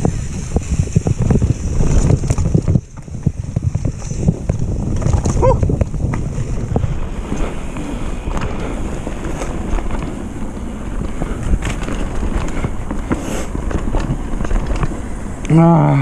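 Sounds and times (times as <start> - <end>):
bike clicks and rattles: 0.0 - 15.6
bike tyre rumble on dirt: 0.0 - 16.0
wind buffeting microphone: 0.0 - 16.0.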